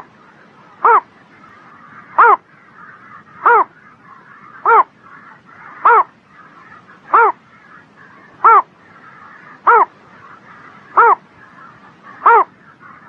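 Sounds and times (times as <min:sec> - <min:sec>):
faint steady chorus: 0:00.0 - 0:13.0
bittern calling: 0:00.6 - 0:13.0.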